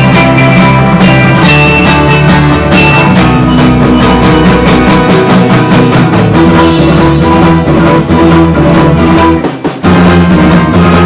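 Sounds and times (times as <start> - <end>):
drum kit beat: 0.0 - 11.0
electric bass: 0.0 - 11.0
electric guitars: 0.0 - 11.0
strummed acoustic guitars: 0.0 - 11.0.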